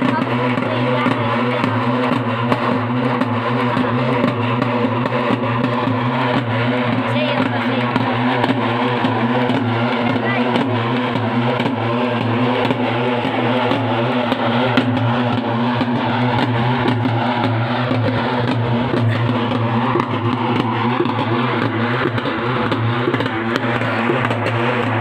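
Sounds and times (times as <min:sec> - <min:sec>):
folk drum ensemble: 0:00.0 - 0:25.0.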